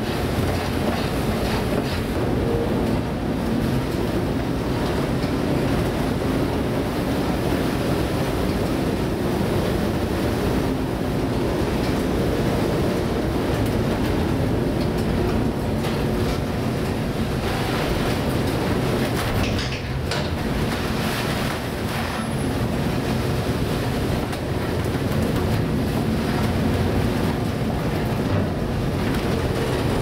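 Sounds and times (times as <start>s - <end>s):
engine and hull rumble: 0.0s - 30.0s
rushing water: 0.0s - 30.0s
wind: 0.0s - 30.0s.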